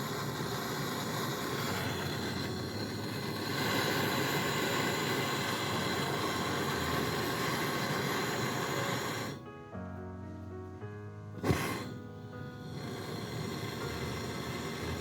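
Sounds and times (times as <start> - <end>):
loud hissing rush: 0.0 - 9.5, 11.4 - 15.0
background music: 0.1 - 15.0.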